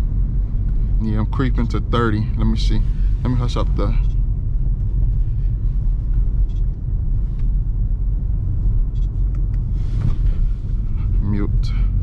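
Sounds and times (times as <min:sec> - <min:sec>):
car engine and exhaust rumble: 0:00.0 - 0:12.0.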